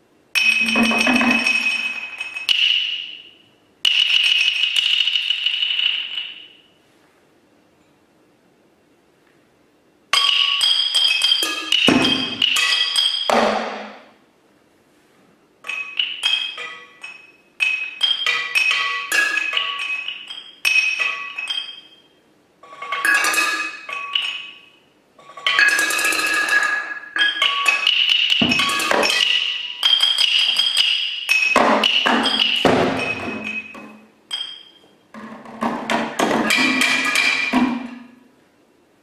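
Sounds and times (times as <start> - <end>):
mallets striking glass bottles: 0.4 - 6.6, 10.2 - 14.1, 15.6 - 38.2.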